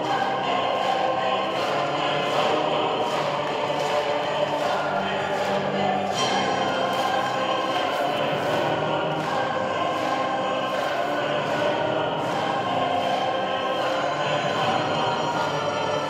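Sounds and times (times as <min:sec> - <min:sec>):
choir singing sustained notes: 0:00.0 - 0:16.0
music over sound system: 0:00.0 - 0:16.0.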